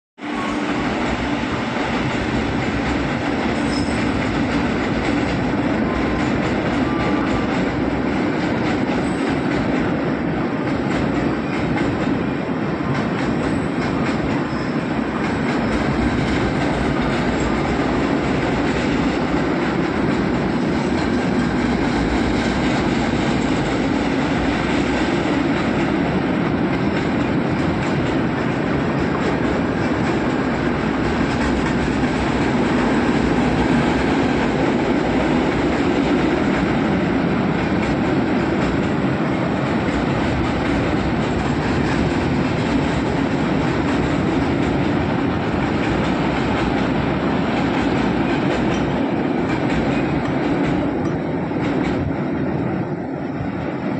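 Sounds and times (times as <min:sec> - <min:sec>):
steel wheels running on rails: 0:00.2 - 0:53.9.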